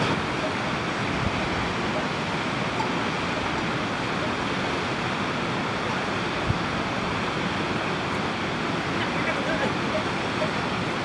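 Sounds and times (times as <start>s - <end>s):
steady rushing outdoor noise: 0.0s - 11.0s.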